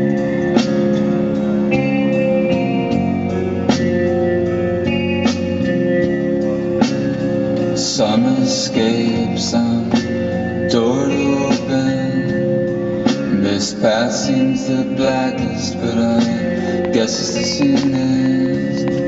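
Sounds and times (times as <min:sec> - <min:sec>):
guitar-led music: 0:00.0 - 0:19.0
person singing: 0:00.0 - 0:19.0.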